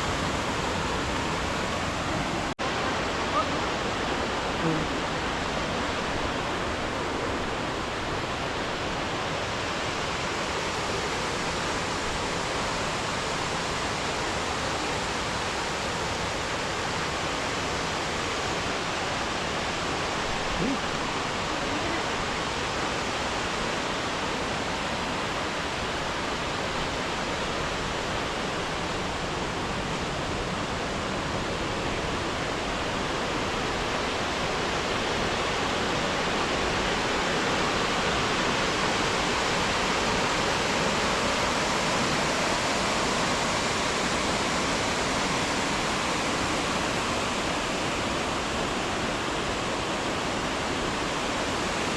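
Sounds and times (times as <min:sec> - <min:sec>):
waterfall over rocks: 0:00.0 - 0:51.9.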